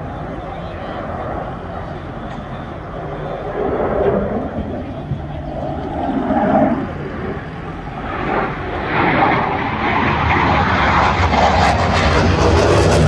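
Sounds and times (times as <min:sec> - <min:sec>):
fighter jet flying past: 0:00.0 - 0:13.0.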